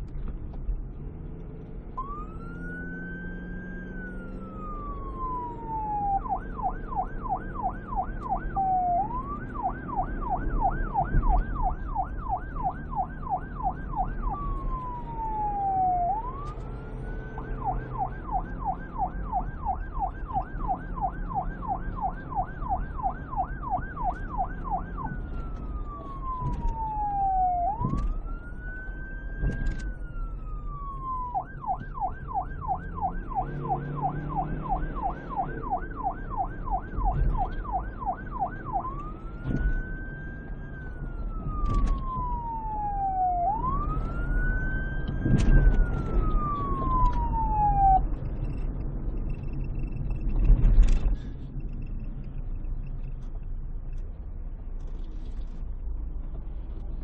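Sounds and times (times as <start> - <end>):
police siren yelp and wail: 1.5 - 54.0.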